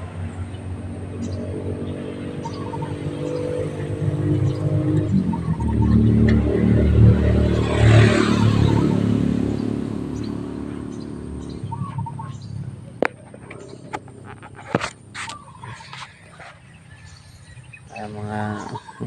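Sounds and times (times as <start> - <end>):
vehicle engine running: 0.0 - 19.0
bird chirps: 0.4 - 6.6, 8.3 - 19.0.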